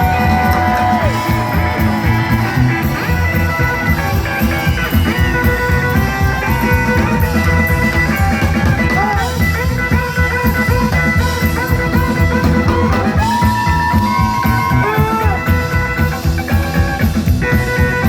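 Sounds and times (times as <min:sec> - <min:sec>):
lead guitar with bent notes: 0:00.0 - 0:18.0
rockabilly band playing live: 0:00.0 - 0:18.0.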